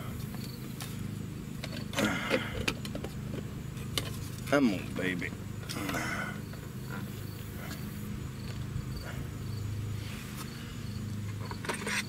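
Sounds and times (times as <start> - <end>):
insect chirps: 0.0 - 12.0
steady low hum: 0.0 - 12.0.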